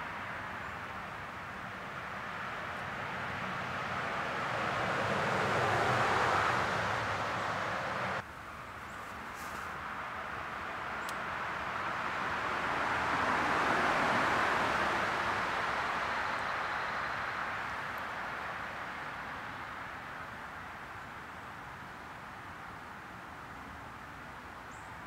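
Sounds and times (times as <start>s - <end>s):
vehicles passing on road: 0.0s - 25.0s.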